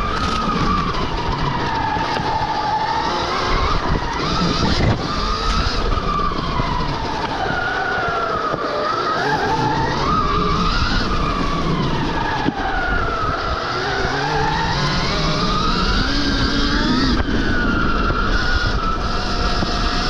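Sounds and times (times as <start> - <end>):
electric motorbike motor whining: 0.0 - 20.0.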